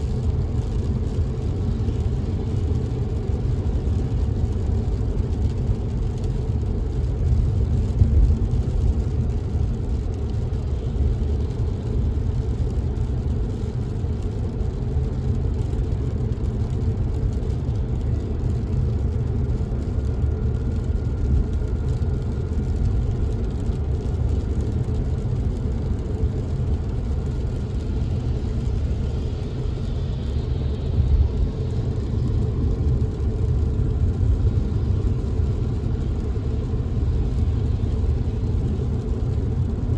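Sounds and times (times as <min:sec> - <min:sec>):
car engine and tyre rumble: 0:00.0 - 0:39.9
faint thin whine: 0:00.0 - 0:39.9.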